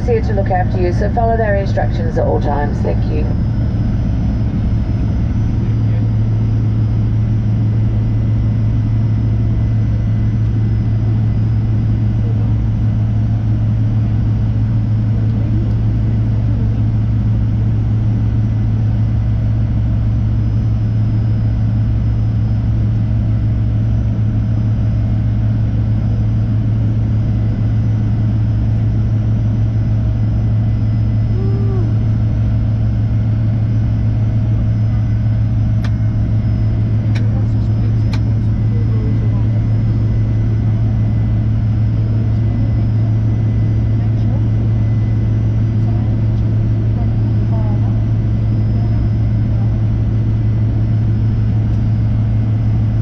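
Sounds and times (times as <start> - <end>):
aircraft cabin engine drone: 0.0 - 53.0
faint steady whine: 0.0 - 53.0.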